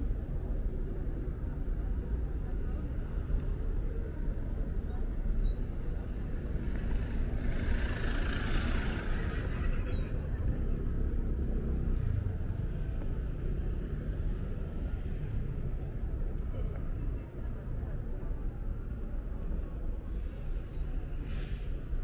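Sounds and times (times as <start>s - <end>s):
low rumble of cars: 0.0s - 22.0s.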